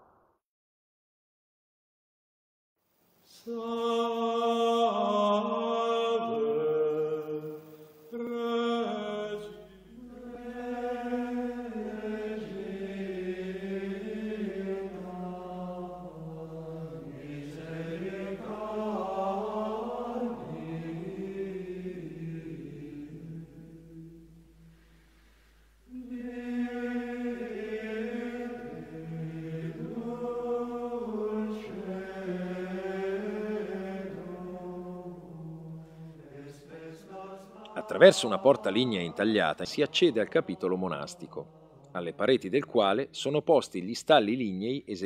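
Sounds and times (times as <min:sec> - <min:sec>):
choral chant: 0:03.3 - 0:25.1, 0:25.8 - 0:42.7.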